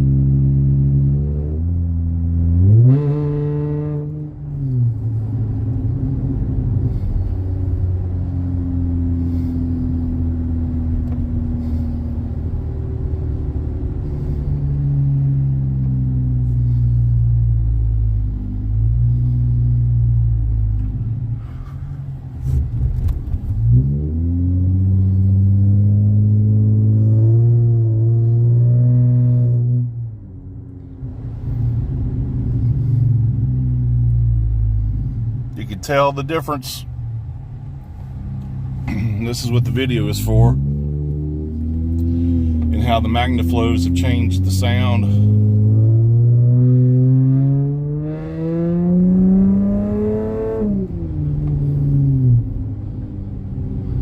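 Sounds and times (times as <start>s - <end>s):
car exhaust revving while driving: 0.0s - 54.0s.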